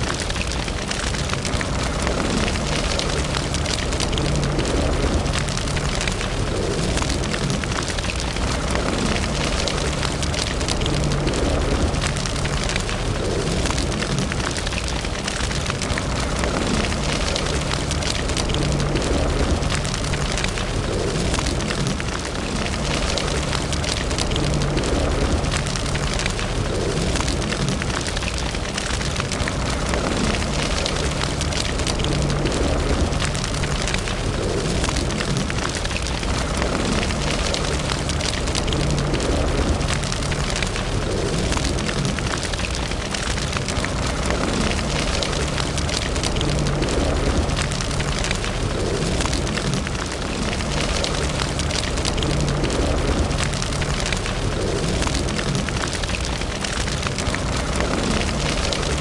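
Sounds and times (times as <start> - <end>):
fire crackling and popping: 0.0 - 59.0
fire roaring: 0.0 - 59.0.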